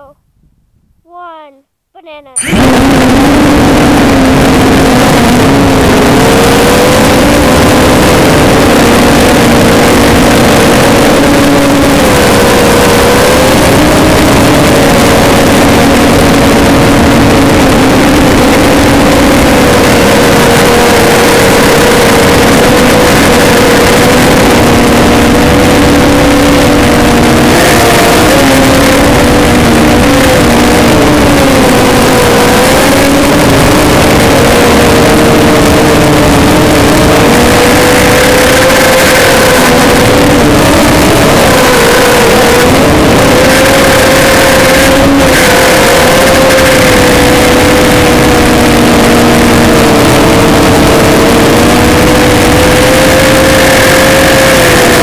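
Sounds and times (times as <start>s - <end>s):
quadcopter motors whining: 2.2s - 48.4s.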